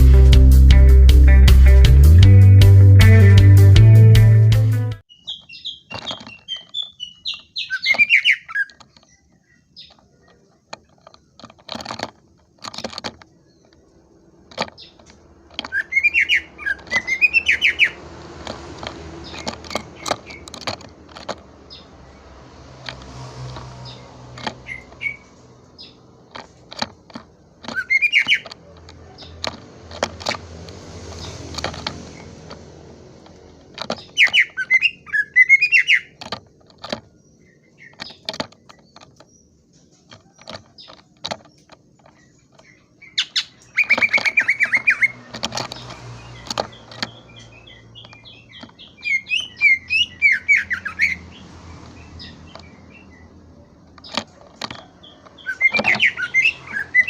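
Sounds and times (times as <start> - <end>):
bird singing chattering notes: 5.1 - 30.3, 31.1 - 57.0
sharp clicks: 5.8 - 57.0.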